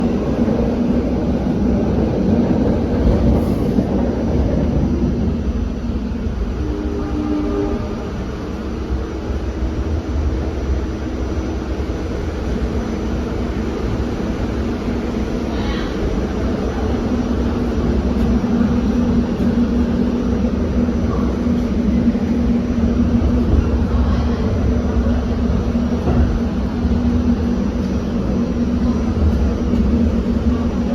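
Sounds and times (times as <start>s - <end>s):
subway train wheels rumbling: 0.0s - 30.9s.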